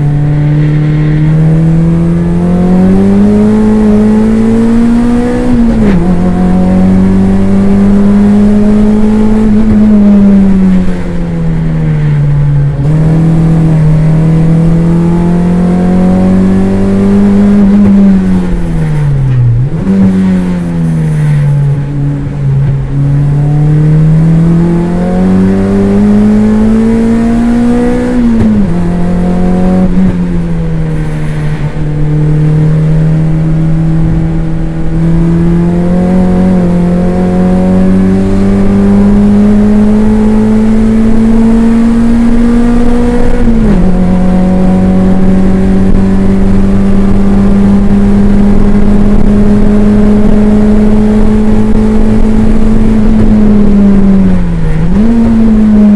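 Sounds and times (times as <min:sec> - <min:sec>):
race car engine under load: 0:00.0 - 0:55.9.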